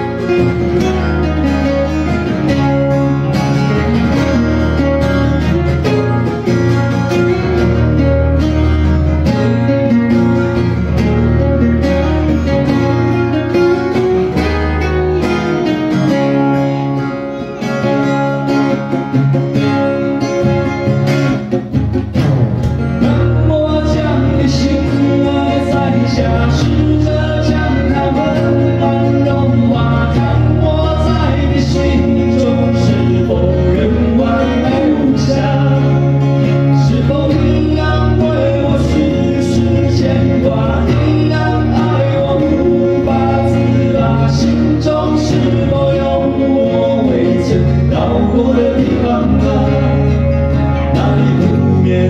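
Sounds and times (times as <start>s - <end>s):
acoustic guitars playing: 0.0s - 52.0s.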